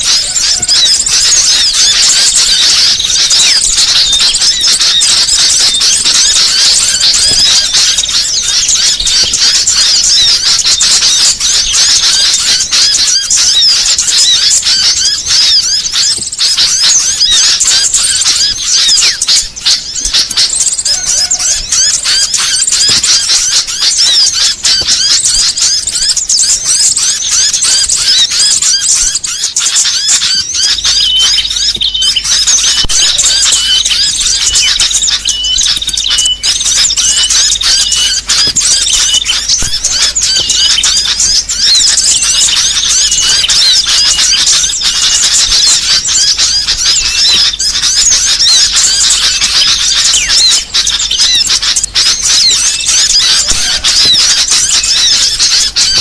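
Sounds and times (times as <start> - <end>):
many small birds chirping: 0.0 - 56.0.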